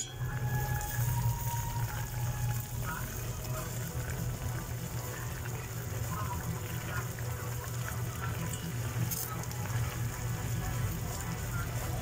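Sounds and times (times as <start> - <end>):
soup bubbling in a pot: 0.0 - 12.0.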